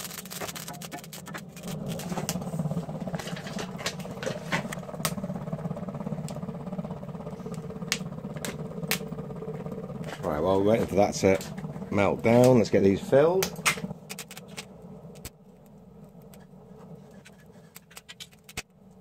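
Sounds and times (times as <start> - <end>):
steady low drone: 0.0 - 19.0.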